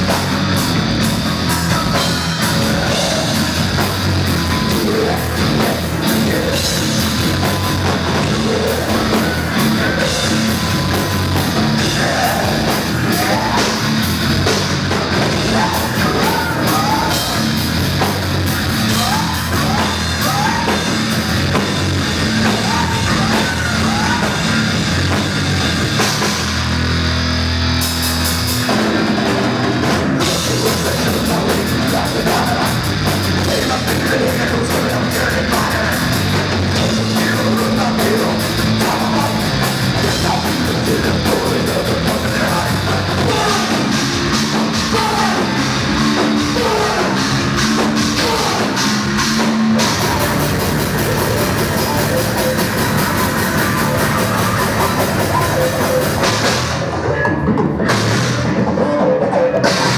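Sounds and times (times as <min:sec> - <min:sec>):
live hard rock band: 0:00.0 - 0:59.9
person singing: 0:01.5 - 0:25.1, 0:29.8 - 0:59.9.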